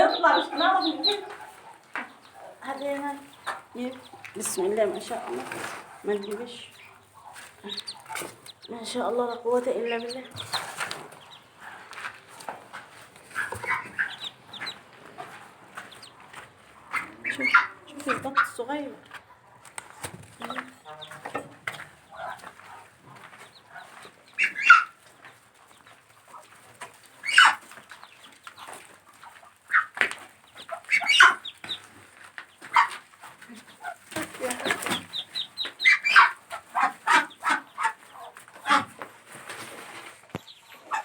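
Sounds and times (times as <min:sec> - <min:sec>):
ducks clucking: 0:00.0 - 0:41.0.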